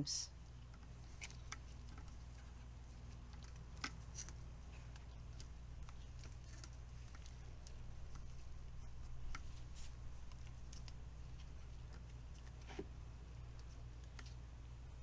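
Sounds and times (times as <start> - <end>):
low steady hum: 0.0 - 15.0
tape clicks and crinkles: 0.5 - 14.5.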